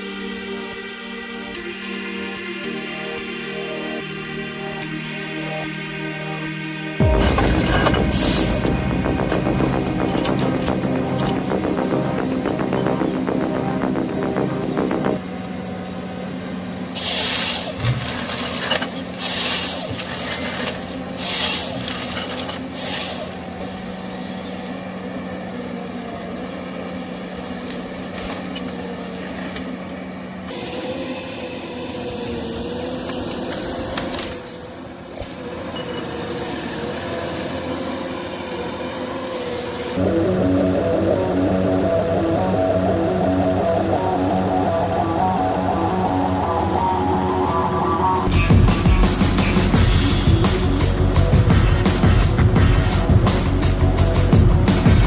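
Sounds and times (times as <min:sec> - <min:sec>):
wavering high-pitched drone: 0:00.0 - 0:17.8, 0:19.5 - 0:55.0
heavy machine engine running: 0:07.0 - 0:55.0.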